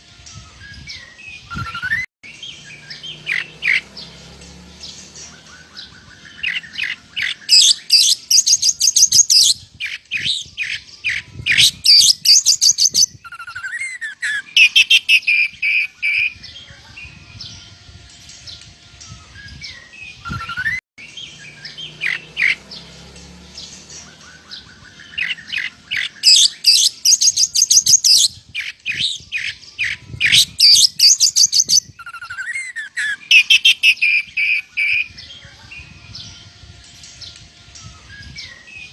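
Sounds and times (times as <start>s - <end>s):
songbird chattering song: 0.3s - 38.9s.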